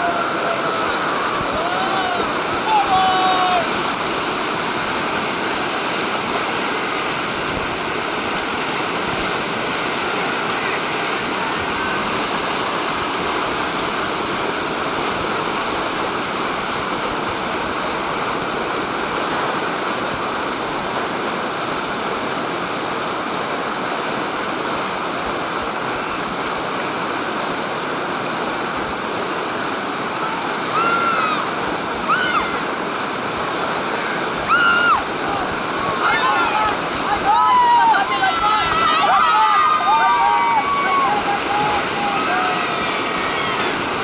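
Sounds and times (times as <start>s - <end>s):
whitewater rapids rushing: 0.0s - 44.0s.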